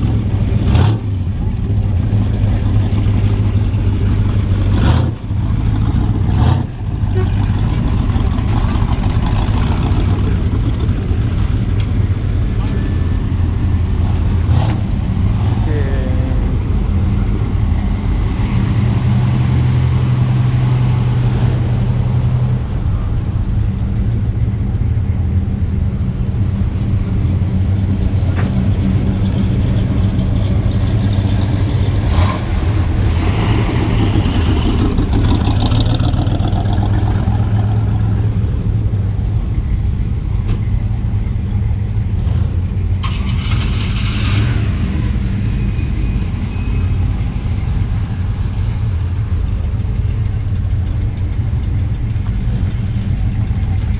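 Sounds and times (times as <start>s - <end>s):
car engines rumbling: 0.0s - 53.9s.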